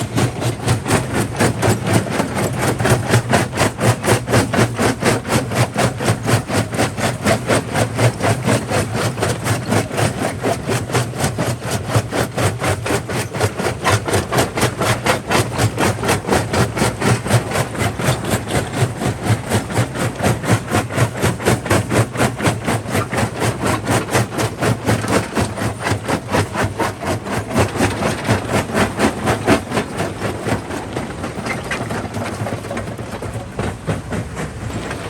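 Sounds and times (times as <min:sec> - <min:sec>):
rock crusher rhythmic pounding: 0:00.0 - 0:35.0.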